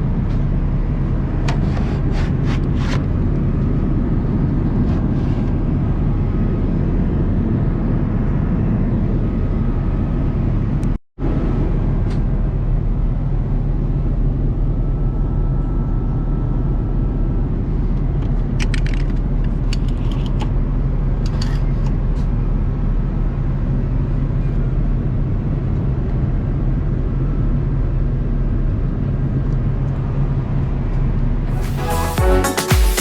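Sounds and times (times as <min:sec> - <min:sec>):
airliner cabin engine drone: 0:00.0 - 0:32.2.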